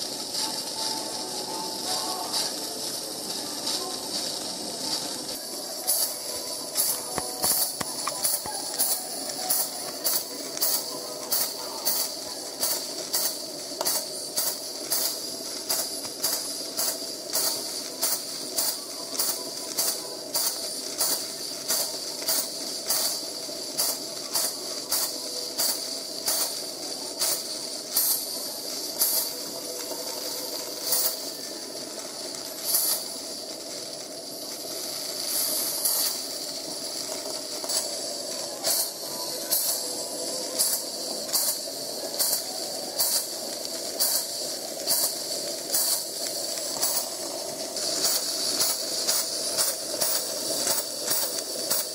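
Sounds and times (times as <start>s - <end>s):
steady steam hiss: 0.0s - 51.9s
steam pump puffing: 0.0s - 51.9s.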